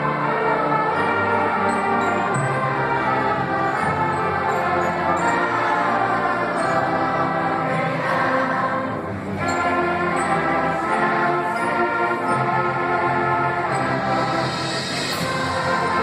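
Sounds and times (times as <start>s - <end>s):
choir singing sustained notes: 0.0s - 16.0s
instrumental accompaniment: 0.0s - 16.0s.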